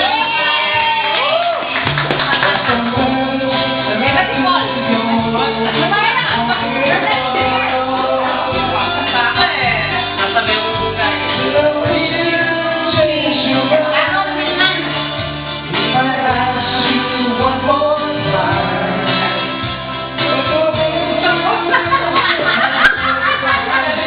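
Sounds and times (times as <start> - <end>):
instrumental accompaniment: 0.0 - 24.0
person singing: 2.4 - 24.0.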